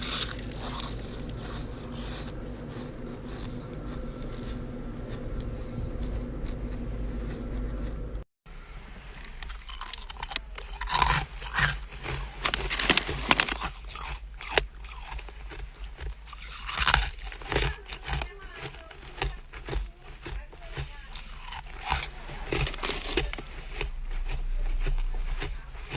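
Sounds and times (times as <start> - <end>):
ice being chewed: 0.0 - 8.2, 9.1 - 25.9
low hum: 0.0 - 17.8, 20.6 - 25.9.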